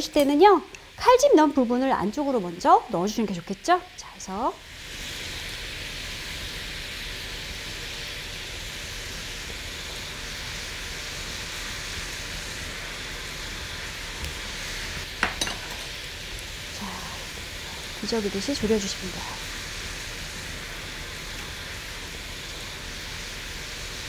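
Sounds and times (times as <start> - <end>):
sauce sizzling in a frying pan: 0.0 - 24.0.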